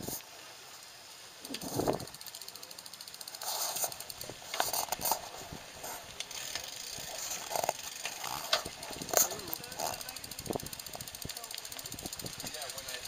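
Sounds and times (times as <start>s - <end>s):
bicycle clicks and rattles: 0.8s - 13.0s
bicycle freewheel ticking: 0.8s - 13.0s.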